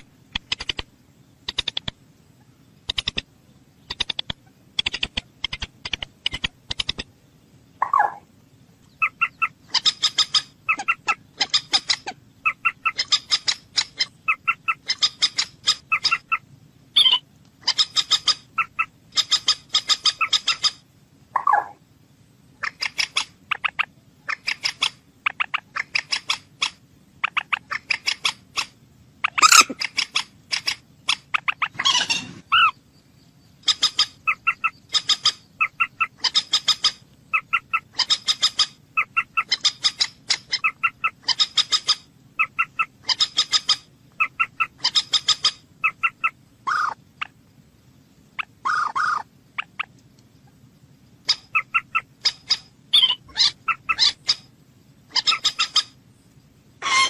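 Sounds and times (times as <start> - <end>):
bird calling in pulsed bursts: 0.0 - 47.4, 48.3 - 56.0.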